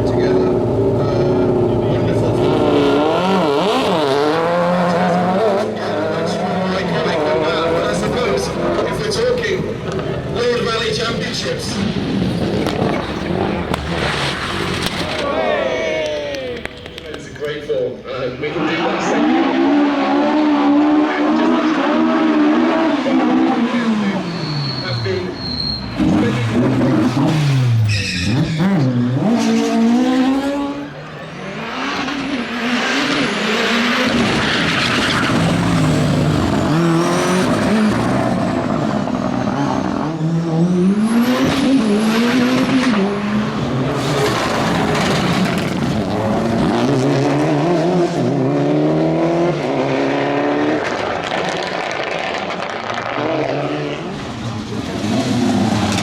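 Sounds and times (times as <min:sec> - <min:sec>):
rally car engine revving: 0:00.0 - 0:15.4, 0:18.2 - 0:56.0
tyres skidding: 0:00.0 - 0:56.0.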